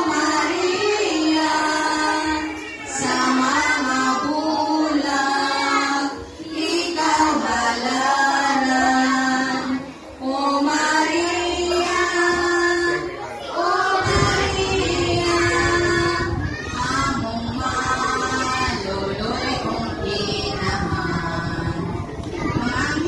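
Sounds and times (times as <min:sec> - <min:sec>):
children singing a hymn: 0:00.0 - 0:23.0.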